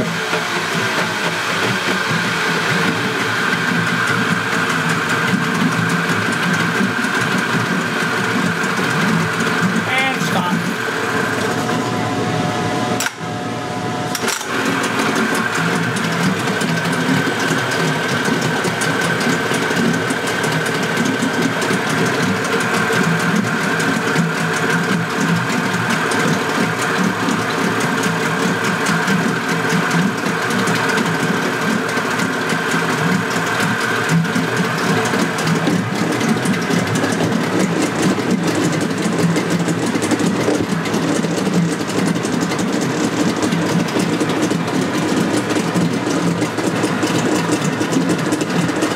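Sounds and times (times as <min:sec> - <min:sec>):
outboard motor idling: 0:00.0 - 0:48.9.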